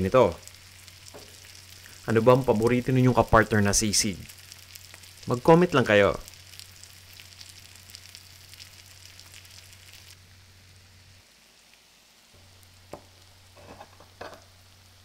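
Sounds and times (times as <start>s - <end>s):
meat sizzling on hot plate: 0.0s - 15.0s.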